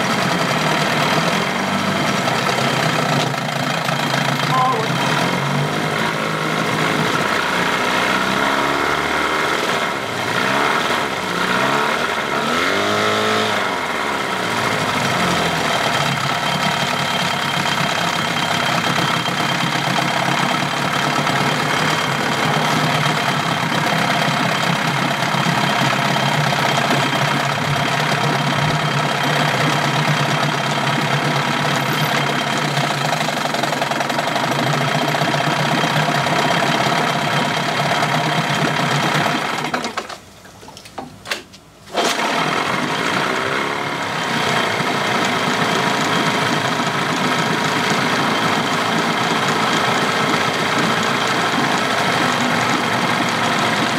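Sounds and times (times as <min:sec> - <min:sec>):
outboard motor revving: 0:00.0 - 0:40.0, 0:41.9 - 0:53.9.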